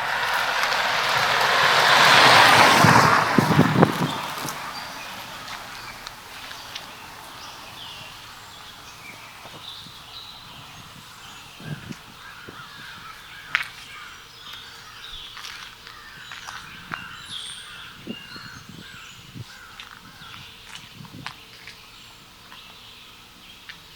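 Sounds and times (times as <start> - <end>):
wild birds chirping: 0.0 - 23.9.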